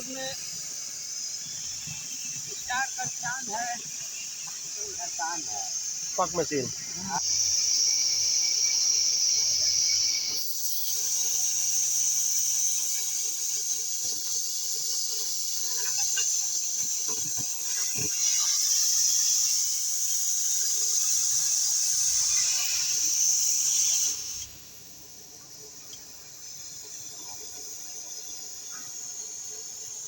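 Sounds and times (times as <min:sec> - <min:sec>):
cutting torch hissing: 0:00.0 - 0:30.0.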